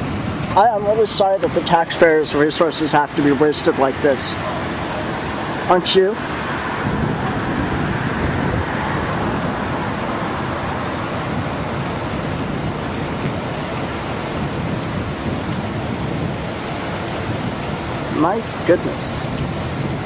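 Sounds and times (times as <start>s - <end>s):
rushing outdoor background noise: 0.0s - 20.0s.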